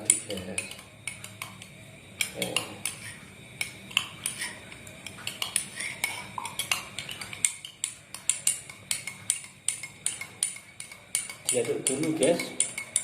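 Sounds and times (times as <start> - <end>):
spoon clinking against container: 0.0 - 13.0.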